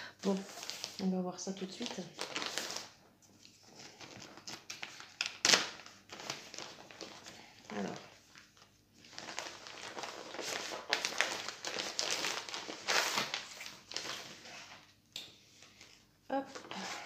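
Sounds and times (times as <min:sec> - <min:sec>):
packaging crinkling and rustling: 0:00.2 - 0:15.0.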